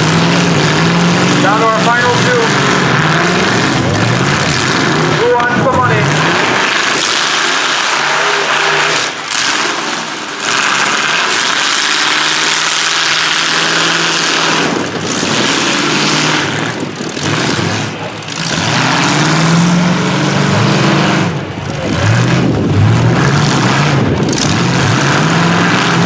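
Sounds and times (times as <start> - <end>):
dense rush of noise: 0.0 - 26.0
truck engines revving: 0.0 - 26.0.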